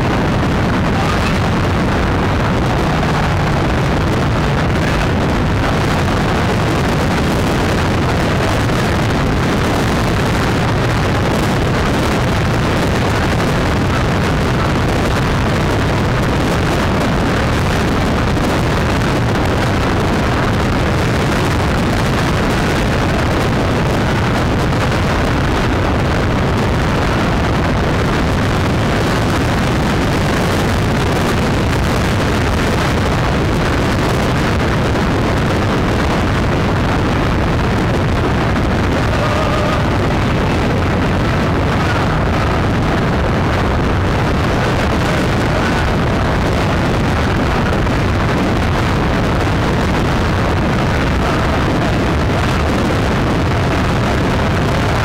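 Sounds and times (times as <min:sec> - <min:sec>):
steady engine drone: 0:00.0 - 0:55.0
wind rush on microphone: 0:00.0 - 0:55.0.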